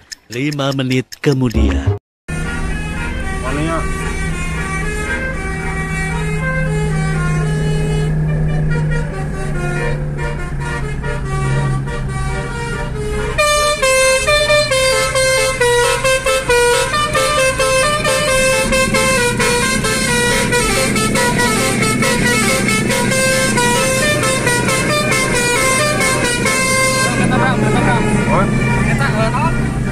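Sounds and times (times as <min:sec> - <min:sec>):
vehicle engine humming: 0:00.0 - 0:29.9
musical air horn melody: 0:02.3 - 0:29.9.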